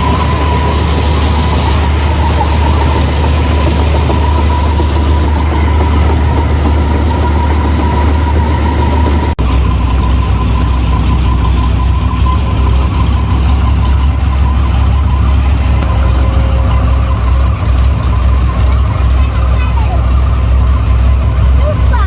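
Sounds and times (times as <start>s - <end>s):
combine harvester engine drone: 0.0s - 22.0s
high whine: 0.0s - 22.0s.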